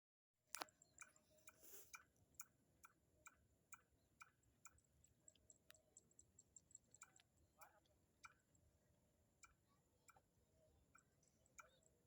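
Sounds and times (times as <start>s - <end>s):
faint evenly spaced ticks: 0.5s - 12.0s.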